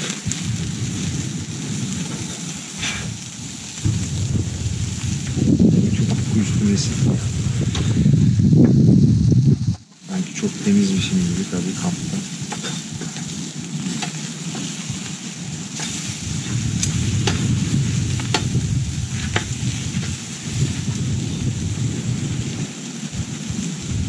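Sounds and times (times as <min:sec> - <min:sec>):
food sizzling on charcoal grill: 0:00.0 - 0:24.0
sharp pops and crackles: 0:00.0 - 0:24.0
low rumble: 0:00.2 - 0:14.0, 0:14.8 - 0:24.0.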